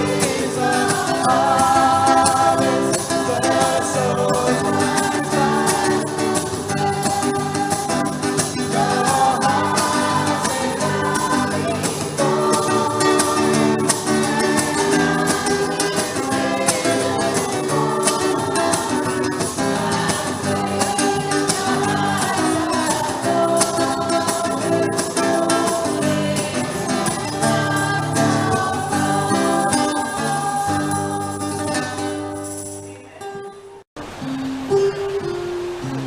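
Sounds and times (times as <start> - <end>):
singing with instrumental accompaniment: 0.0 - 33.8.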